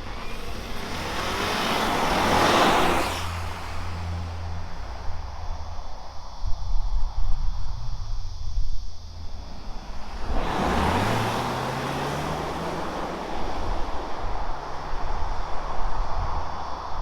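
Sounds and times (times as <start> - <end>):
car engine accelerating: 0.0 - 17.0
rush of noise: 0.0 - 17.0.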